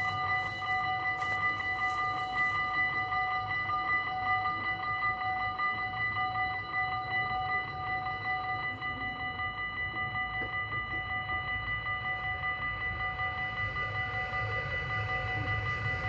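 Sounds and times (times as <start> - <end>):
level crossing warning bells: 0.0 - 16.0.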